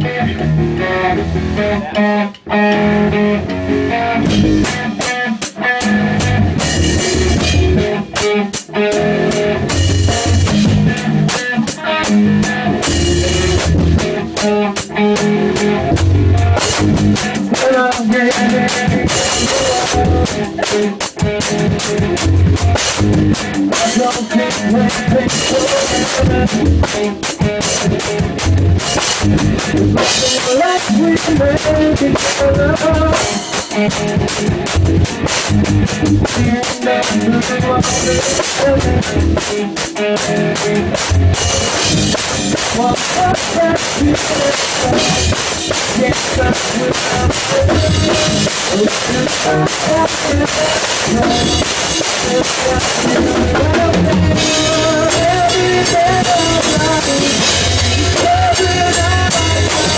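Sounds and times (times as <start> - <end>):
guitar playing: 0.0 - 59.9
drum kit with cymbals: 1.4 - 59.9.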